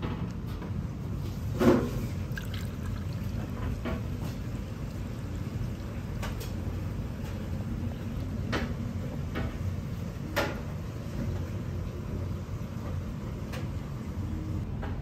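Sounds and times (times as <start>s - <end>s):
restaurant room rumble: 0.0s - 15.0s.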